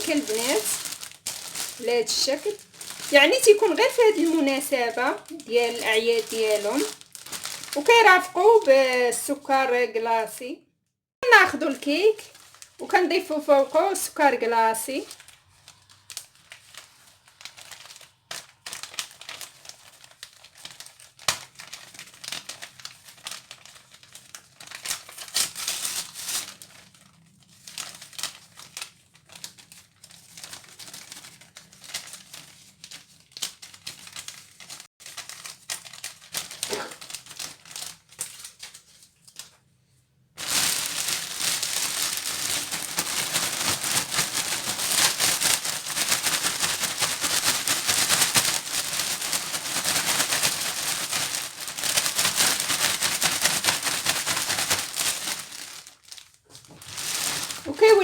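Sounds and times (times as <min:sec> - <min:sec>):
plastic packaging crinkling: 0:00.0 - 0:09.4, 0:11.3 - 0:39.7, 0:40.4 - 0:58.0.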